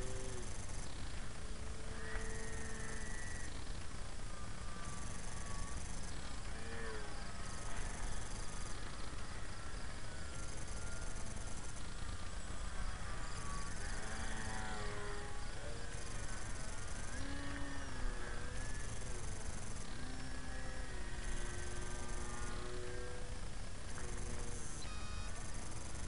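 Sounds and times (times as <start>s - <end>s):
model plane motor buzzing: 0.0s - 26.0s.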